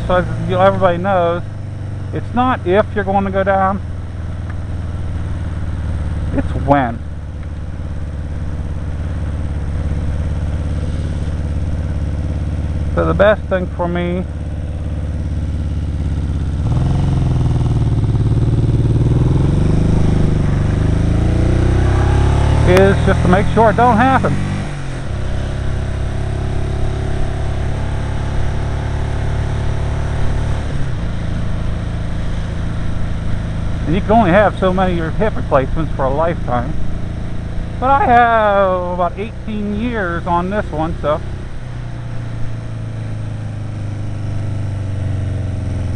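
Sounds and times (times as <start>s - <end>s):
rushing riding noise: 0.0s - 3.9s, 6.1s - 7.1s, 7.7s - 37.0s, 37.6s - 43.9s
motorcycle engine running: 0.0s - 45.9s.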